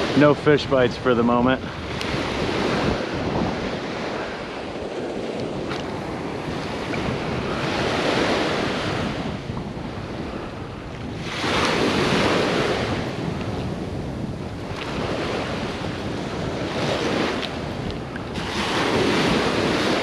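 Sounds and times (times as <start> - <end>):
small waves breaking on sand: 0.0 - 20.0
wind buffeting microphone: 0.0 - 20.0.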